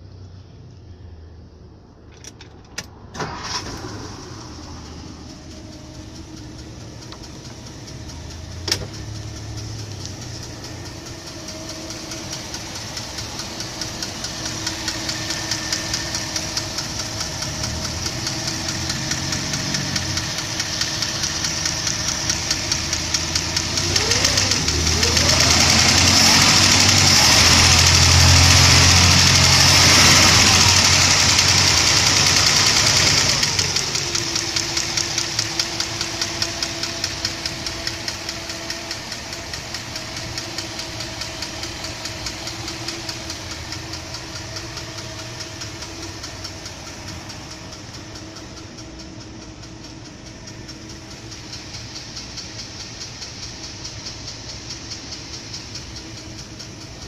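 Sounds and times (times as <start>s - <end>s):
car engine starting and idling: 0.0s - 57.0s
engine revving: 3.2s - 57.0s.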